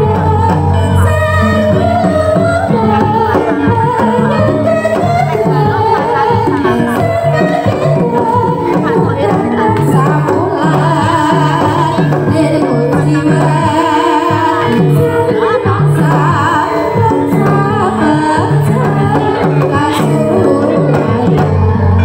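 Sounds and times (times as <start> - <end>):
gamelan ensemble playing: 0.0 - 22.0
women singing: 0.0 - 22.0.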